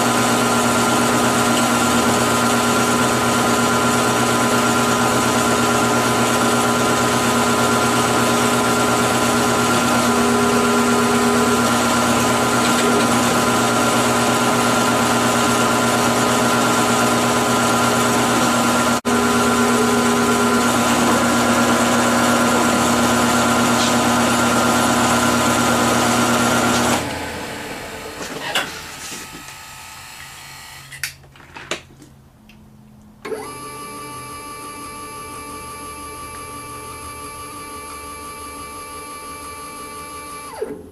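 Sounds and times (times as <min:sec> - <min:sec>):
shop machinery humming and whining: 0:00.0 - 0:31.2, 0:32.5 - 0:40.9.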